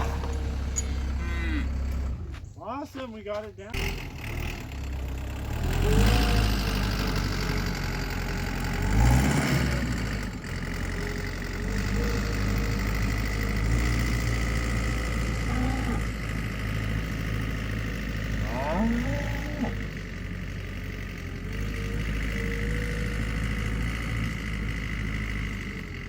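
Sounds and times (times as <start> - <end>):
tractor engine running: 0.0 - 26.0
tractor scraping soil: 0.0 - 26.0.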